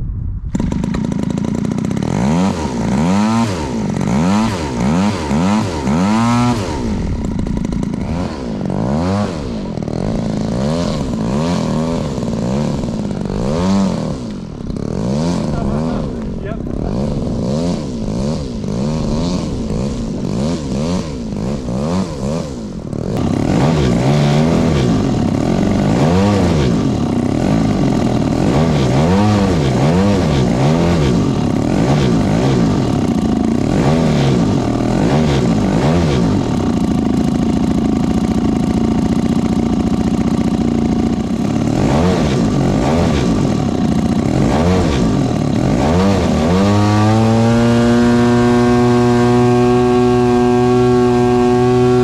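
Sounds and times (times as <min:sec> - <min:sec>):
model plane petrol engine running: 0:00.5 - 0:52.0.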